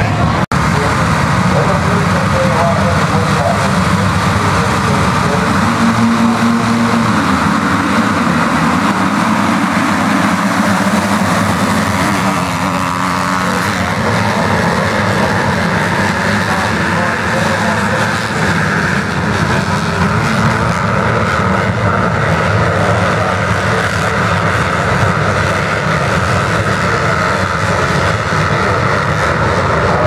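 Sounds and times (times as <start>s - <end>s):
motocross bikes revving: 0.0s - 30.0s.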